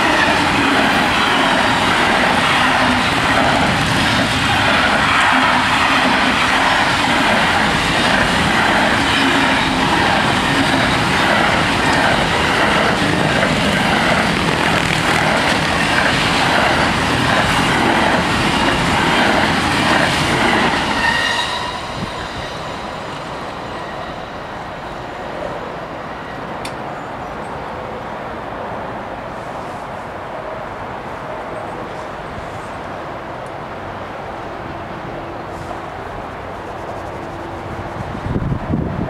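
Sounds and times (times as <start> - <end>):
freight train wheel and rail noise: 0.0 - 39.0.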